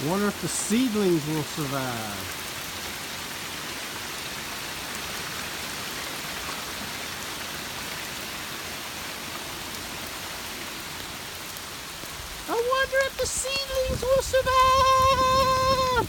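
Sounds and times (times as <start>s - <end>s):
heavy rain on ground and plants: 0.0s - 16.0s.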